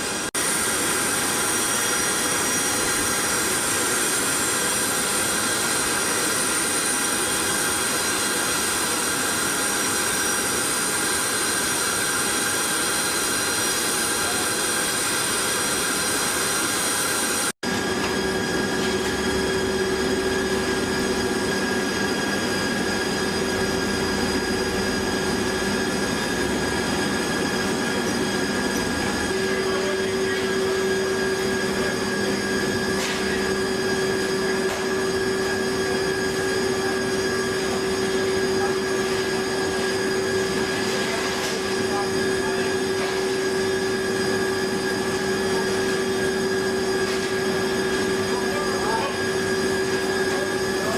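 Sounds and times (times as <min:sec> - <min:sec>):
aircraft turbine whine: 0:00.0 - 0:50.9.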